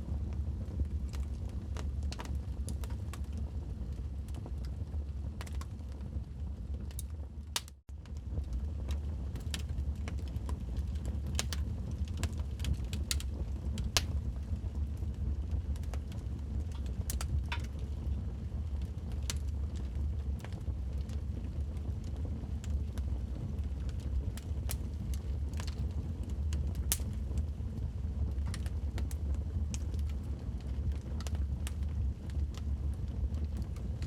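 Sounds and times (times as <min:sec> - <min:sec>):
fire rumbling: 0:00.0 - 0:34.0
wood crackling and popping: 0:00.1 - 0:34.0.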